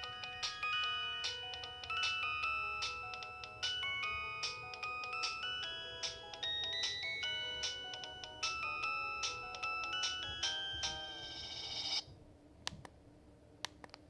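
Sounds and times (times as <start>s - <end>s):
polyphonic phone ringtone: 0.0s - 12.0s.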